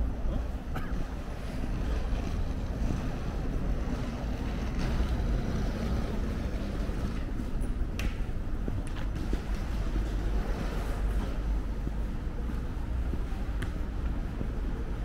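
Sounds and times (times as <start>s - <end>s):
faint street hum: 0.0s - 15.0s.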